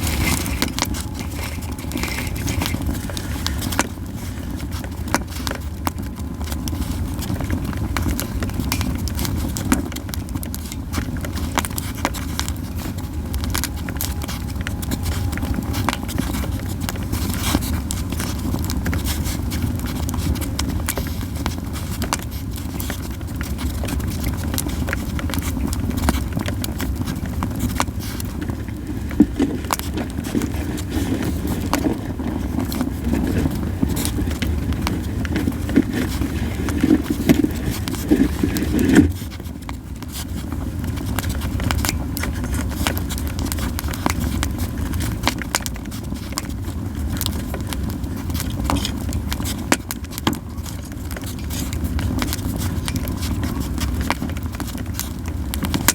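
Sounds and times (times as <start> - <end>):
campfire crackling and popping: 0.0 - 55.9
low fire rumble: 0.0 - 55.9.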